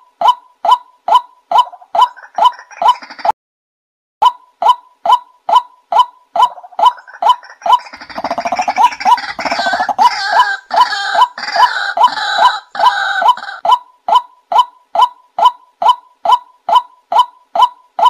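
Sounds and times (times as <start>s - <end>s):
waterhen calling: 0.0s - 3.3s, 4.2s - 18.0s.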